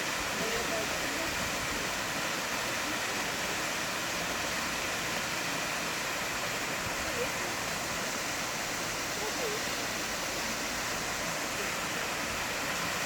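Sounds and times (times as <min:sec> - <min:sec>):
water pouring down a waterfall: 0:00.0 - 0:13.0.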